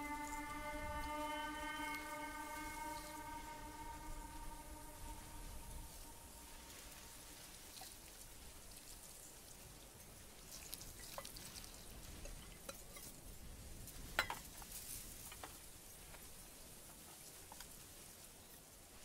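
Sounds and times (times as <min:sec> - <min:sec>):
quiet outdoor hiss: 0:00.0 - 0:19.0.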